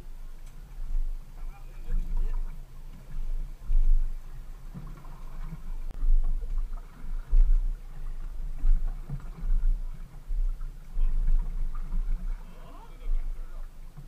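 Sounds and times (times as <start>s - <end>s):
water buffeting boat hull: 0.0s - 14.0s.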